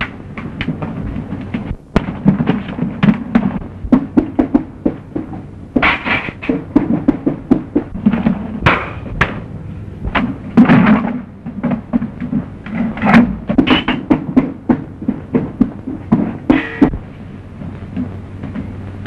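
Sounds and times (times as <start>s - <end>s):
knocks and thuds of blows: 0.0s - 17.0s.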